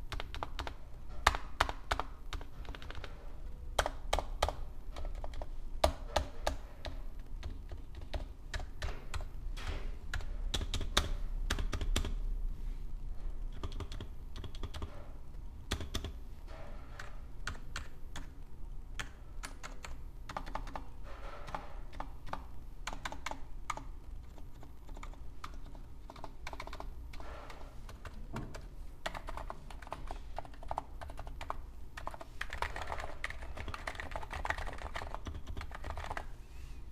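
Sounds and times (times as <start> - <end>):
keyboard typing: 0.0 - 12.2, 13.5 - 36.3.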